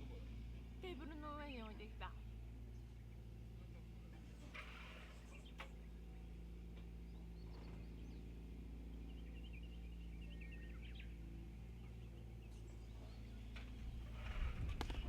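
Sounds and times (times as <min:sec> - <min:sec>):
steady low hum: 0:00.0 - 0:15.0
wild birds chirping: 0:00.0 - 0:15.0.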